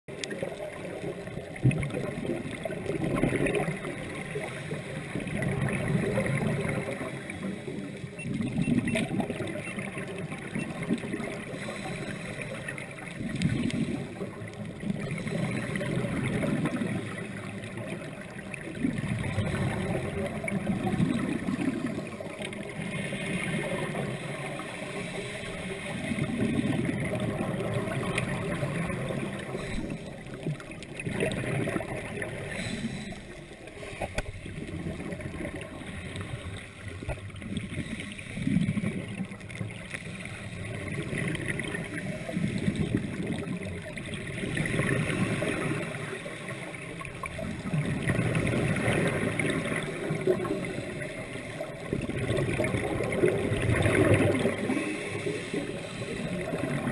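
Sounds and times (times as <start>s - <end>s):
muffled underwater noise: 0.1s - 56.9s
regulator bubbles gurgling: 0.1s - 56.9s.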